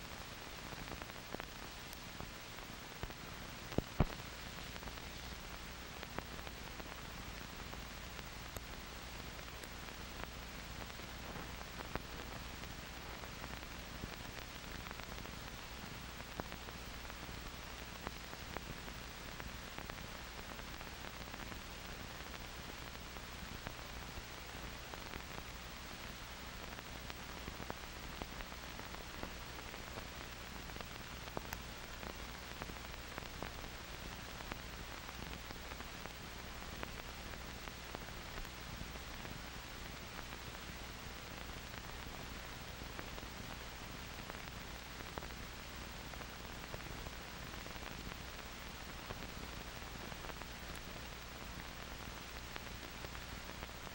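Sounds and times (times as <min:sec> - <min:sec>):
film soundtrack hiss: 0:00.0 - 0:53.9
clicks and crackles: 0:00.1 - 0:53.9.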